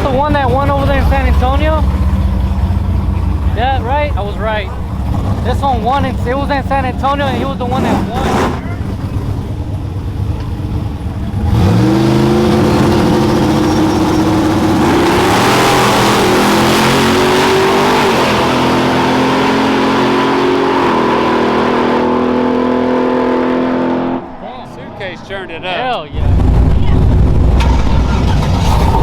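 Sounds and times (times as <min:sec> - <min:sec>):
drag vehicle engine at full throttle: 0:00.0 - 0:24.4, 0:26.1 - 0:29.0.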